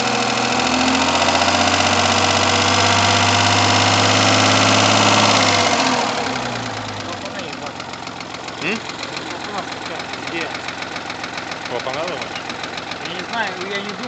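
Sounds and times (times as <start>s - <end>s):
car engine with heavy rapid knock: 0.0s - 14.0s.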